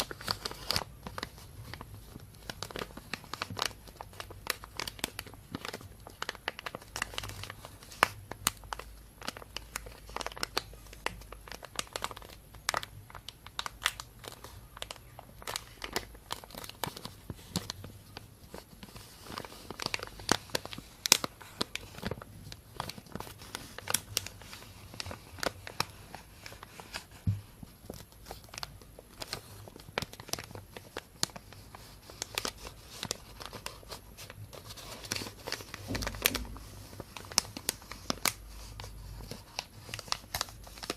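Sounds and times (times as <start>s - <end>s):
plastic bag crinkling: 0.0s - 40.9s.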